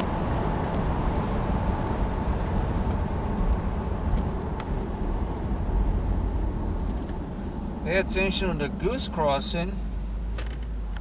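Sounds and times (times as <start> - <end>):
car engine running: 0.0 - 11.0
road and wind noise: 0.0 - 11.0.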